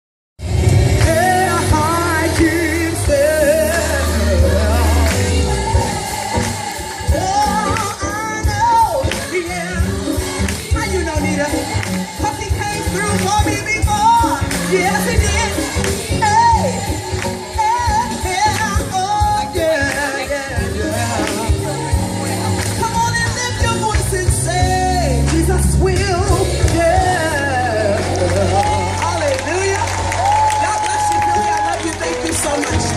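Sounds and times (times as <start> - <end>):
bass: 0.4 - 32.9
person singing with vibrato: 0.5 - 29.4
percussion beat: 0.5 - 32.9.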